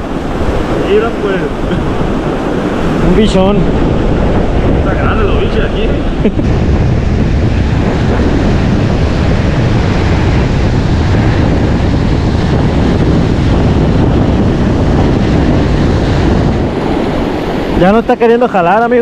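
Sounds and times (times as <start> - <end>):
ocean surf breaking on sand: 0.0 - 19.0
wind buffeting microphone: 0.0 - 19.0.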